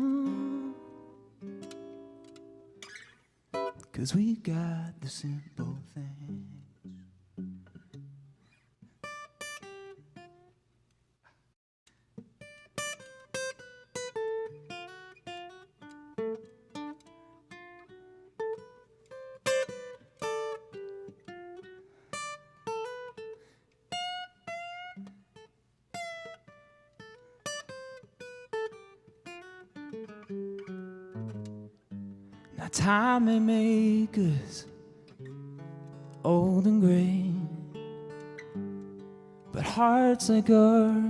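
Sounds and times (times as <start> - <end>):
guitar plucking a melody: 0.0 - 10.6, 11.2 - 41.0.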